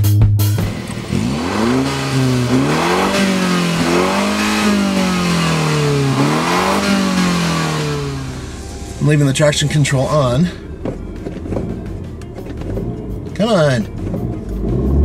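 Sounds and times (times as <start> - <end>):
car engine revving: 0.6 - 15.0.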